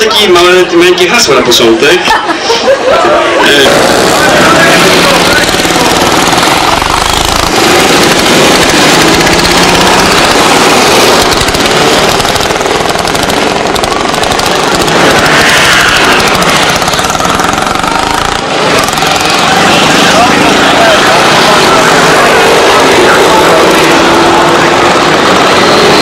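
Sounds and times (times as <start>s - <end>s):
motorcycles riding past: 2.8s - 26.0s.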